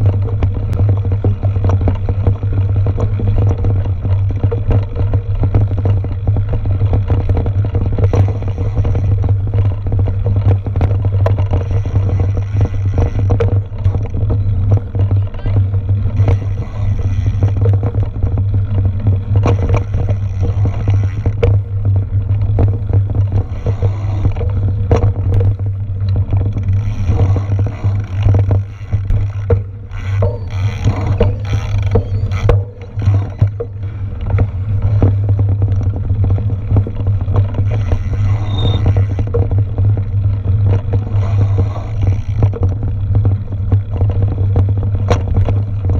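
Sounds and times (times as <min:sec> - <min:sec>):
bike knocking and rattling: 0:00.0 - 0:45.9
low rumble of wind: 0:00.0 - 0:45.9.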